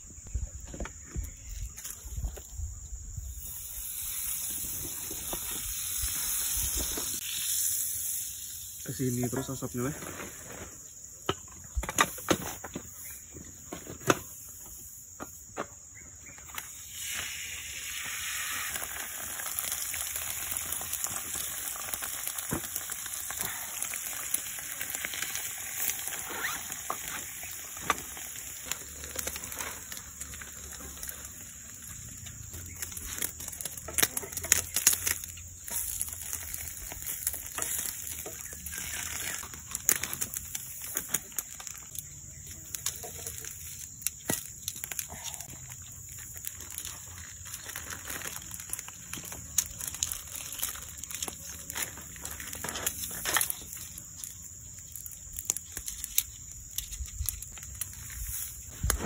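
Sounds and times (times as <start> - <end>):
campfire crackles: 1.3 - 15.2, 16.2 - 59.0
bread sizzling in a frying pan: 3.3 - 10.6, 16.2 - 59.0.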